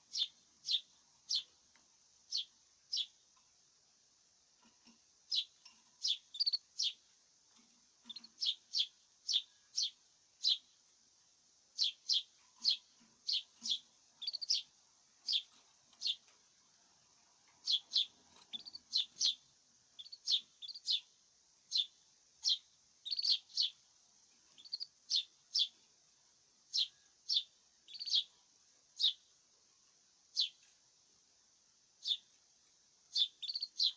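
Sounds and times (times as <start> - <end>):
small songbird chirping: 0.0 - 3.3, 4.6 - 10.9, 11.7 - 31.3, 31.9 - 33.9.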